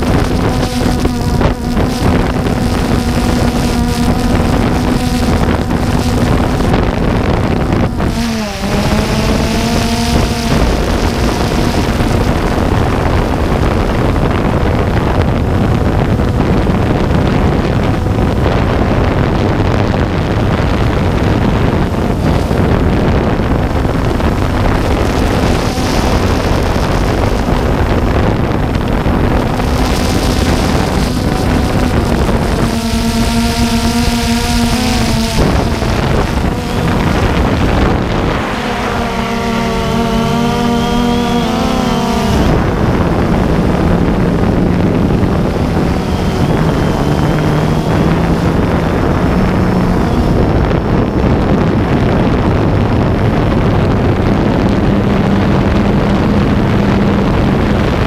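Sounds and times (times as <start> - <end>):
drone motors buzzing: 0.0 - 58.0
wind on microphone: 0.0 - 58.0.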